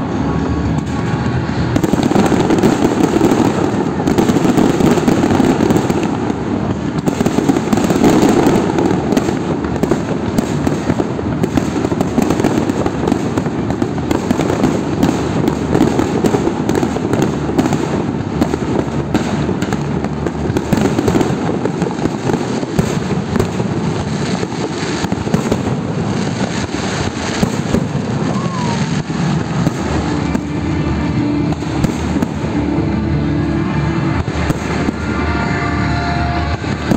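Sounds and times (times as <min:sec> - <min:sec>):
fireworks crackling and banging: 0:00.0 - 0:36.9.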